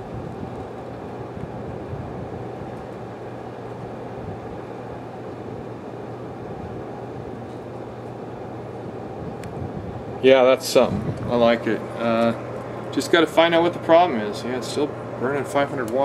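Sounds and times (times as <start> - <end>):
pellet stove blower hum: 0.0 - 16.0.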